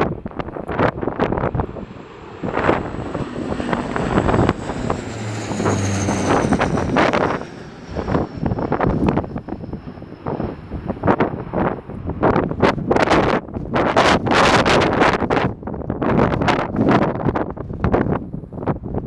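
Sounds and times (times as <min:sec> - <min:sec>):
propeller airliner passing overhead: 0:00.0 - 0:19.0
wind buffeting microphone: 0:00.0 - 0:19.0.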